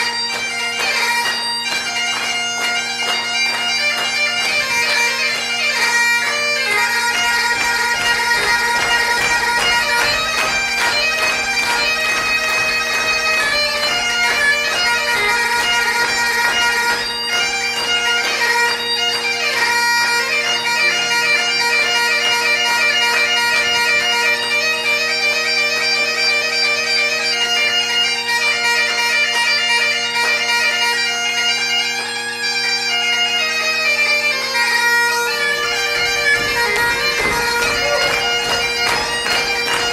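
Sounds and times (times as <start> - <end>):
bagpipe playing solo: 0.0 - 39.9.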